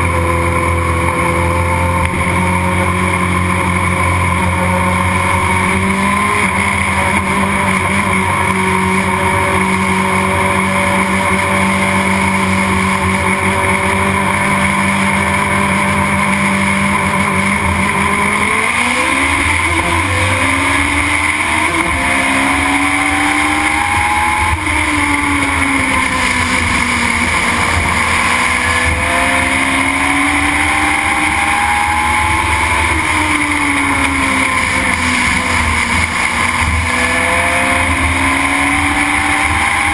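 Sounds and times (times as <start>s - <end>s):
racing engine revving: 0.0s - 39.9s.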